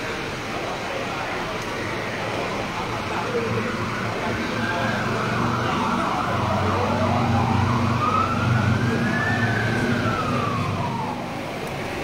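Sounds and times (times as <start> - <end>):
low engine rumble: 0.0 - 12.0
siren wailing: 1.9 - 11.5.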